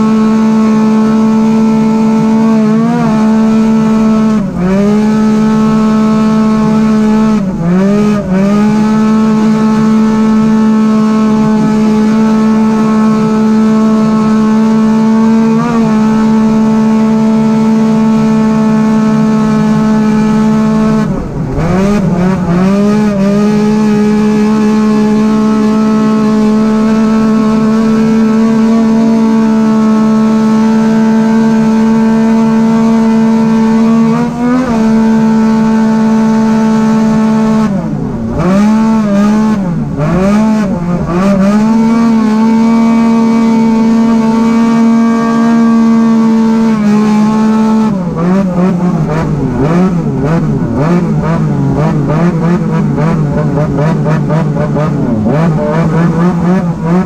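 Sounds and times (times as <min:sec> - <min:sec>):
engine revving high: 0:00.0 - 0:57.0.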